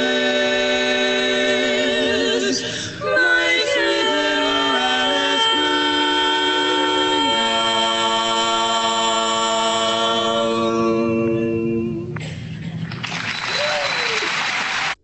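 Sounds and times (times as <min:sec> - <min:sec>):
women singing in harmony: 0:00.0 - 0:12.2.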